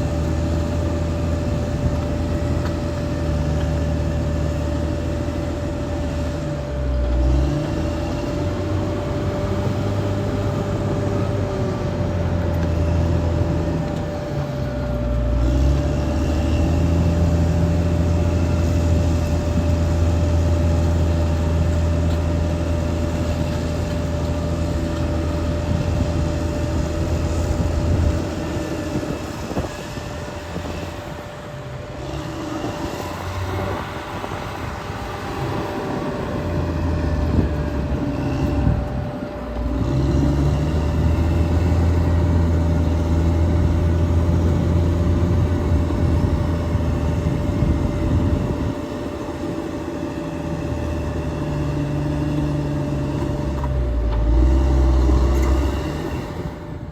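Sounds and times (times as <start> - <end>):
bulldozer diesel engine under load: 0.0 - 56.9.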